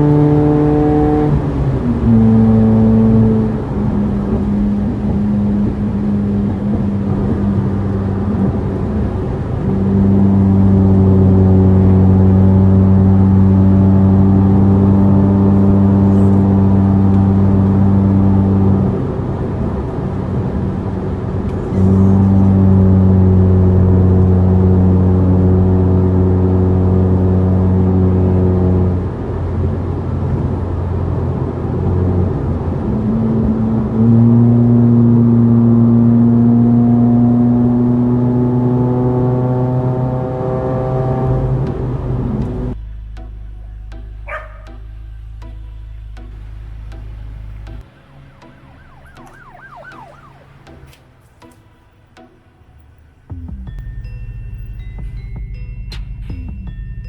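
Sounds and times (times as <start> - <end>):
car engine revving: 0.0 - 55.5.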